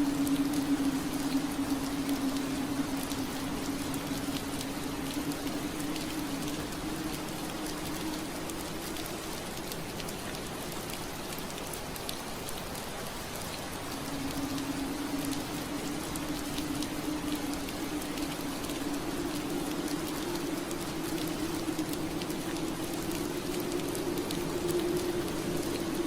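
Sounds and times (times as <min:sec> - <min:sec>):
rain pattering on window glass: 0:00.0 - 0:26.0.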